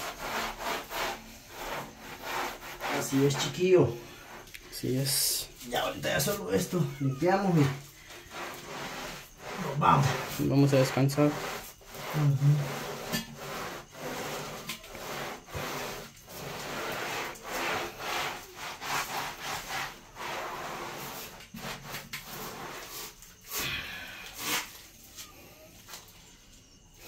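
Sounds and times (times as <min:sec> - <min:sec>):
wet rag scrubbing tiles: 0:00.0 - 0:26.2.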